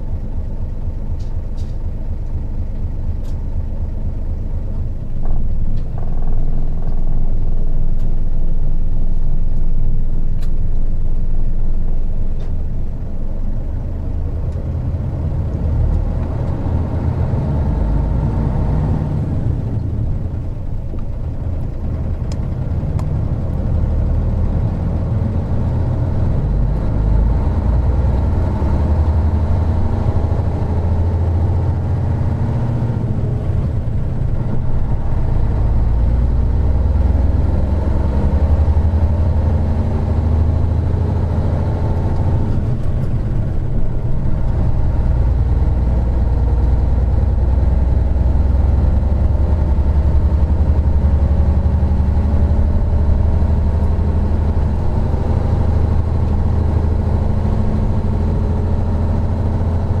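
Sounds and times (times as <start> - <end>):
bus diesel engine drone: 0.0 - 60.0.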